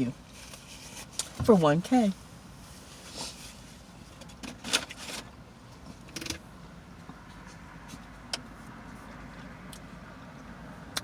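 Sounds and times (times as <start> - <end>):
car interior hum: 0.0 - 11.0.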